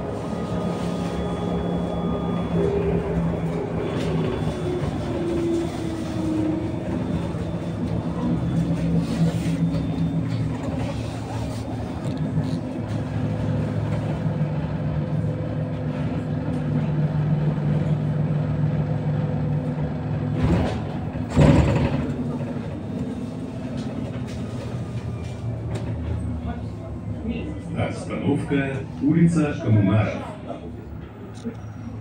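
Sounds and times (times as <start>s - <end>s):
electric bus drive hum: 0.0s - 32.0s
road noise: 0.0s - 32.0s.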